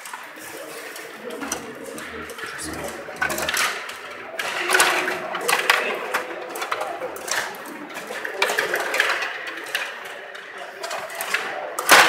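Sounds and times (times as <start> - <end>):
table hockey rods clicking: 0.0 - 12.0.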